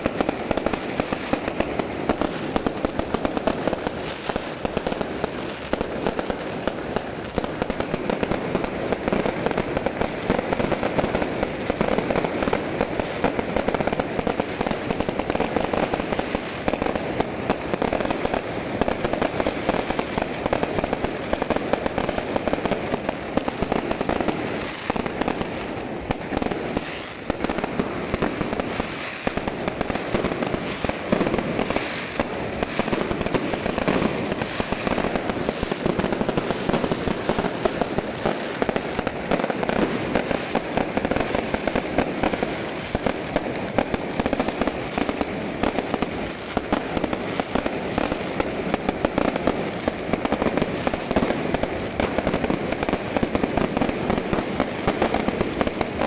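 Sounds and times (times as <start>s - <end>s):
fireworks popping and banging: 0.0s - 56.0s.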